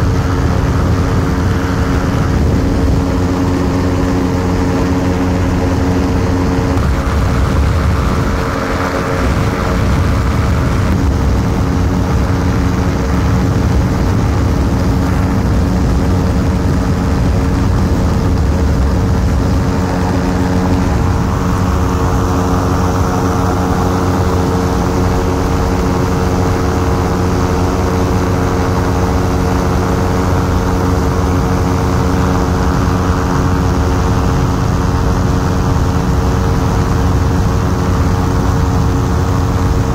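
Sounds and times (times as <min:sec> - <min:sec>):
rushing noise: 0:00.0 - 0:39.9
ultralight aircraft engine: 0:00.0 - 0:39.9.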